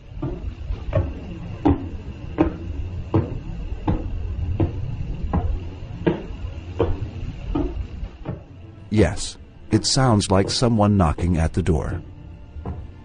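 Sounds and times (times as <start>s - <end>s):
regular knock-like radio pulses: 0.0s - 13.0s
steady hiss: 0.0s - 13.0s.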